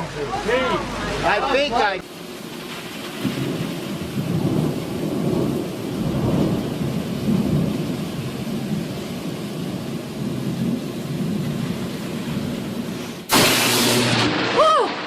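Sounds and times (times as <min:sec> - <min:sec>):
steady rain: 0:00.0 - 0:15.0
thunder rumbling: 0:02.3 - 0:15.0.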